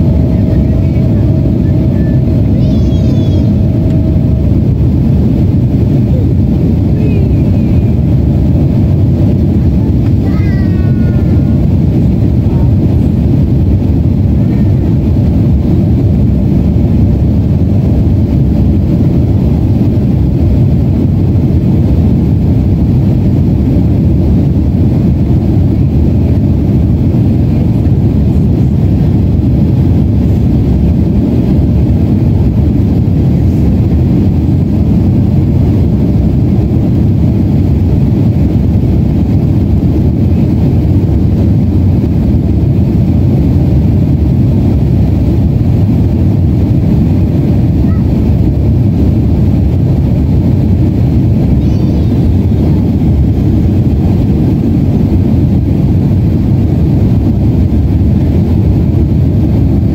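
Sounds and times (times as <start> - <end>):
airliner cabin jet engine rumble: 0.0 - 59.9.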